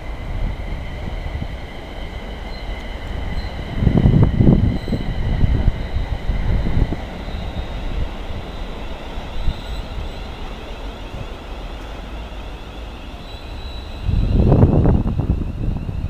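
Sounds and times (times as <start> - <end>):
wheels rumbling on rail: 0.0 - 16.0.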